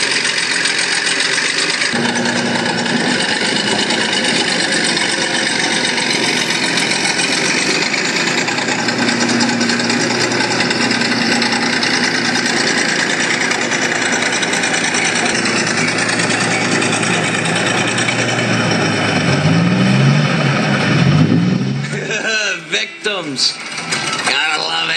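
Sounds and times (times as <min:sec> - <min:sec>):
bulldozer engine clattering: 0:00.0 - 0:24.9.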